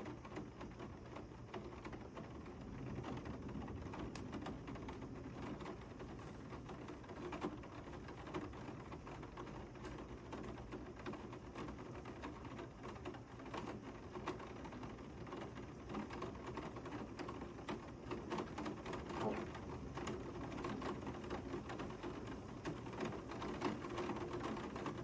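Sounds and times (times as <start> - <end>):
raindrops ticking close by: 0.0 - 25.0.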